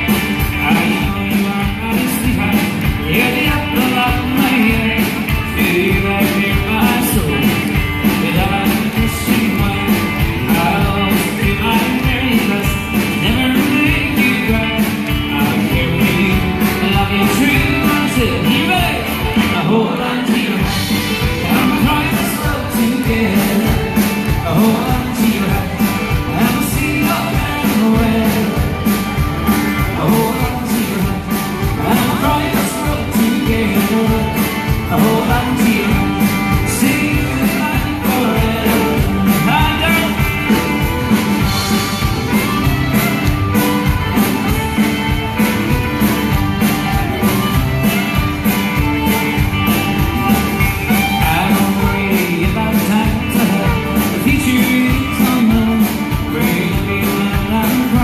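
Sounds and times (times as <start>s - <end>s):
guitars playing country music: 0.0s - 58.0s
man singing: 0.0s - 58.0s.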